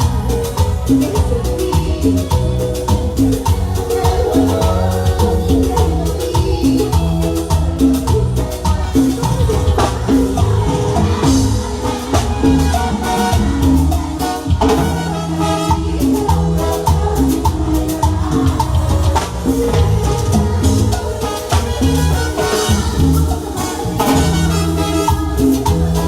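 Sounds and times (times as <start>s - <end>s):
latin dance band playing: 0.0s - 26.0s.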